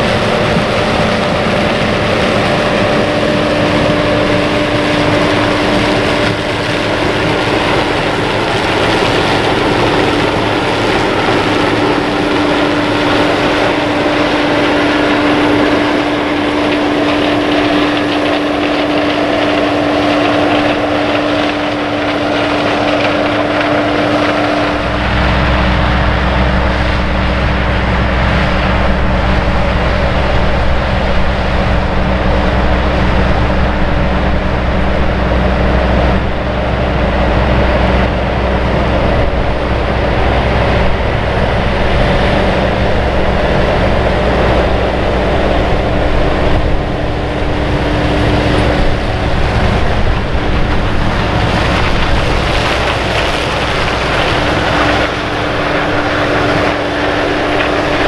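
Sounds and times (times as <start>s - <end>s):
combine harvester droning: 0.0s - 58.0s
deep tractor engine: 0.0s - 58.0s.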